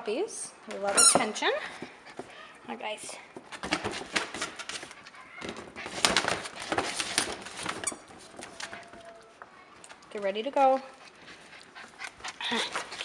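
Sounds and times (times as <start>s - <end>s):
puppies scuffling: 0.7s - 13.0s
rustling and scratching: 0.8s - 13.0s.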